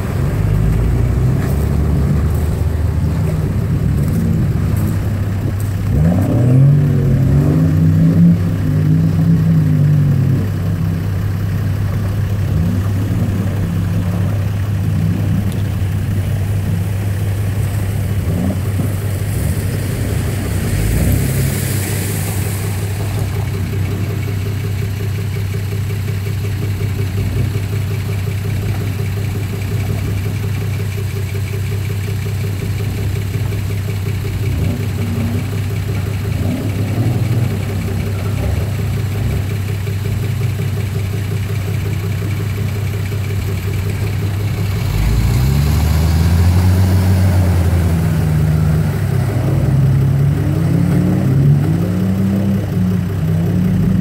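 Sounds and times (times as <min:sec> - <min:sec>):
engine idling and revving: 0:00.0 - 0:54.0.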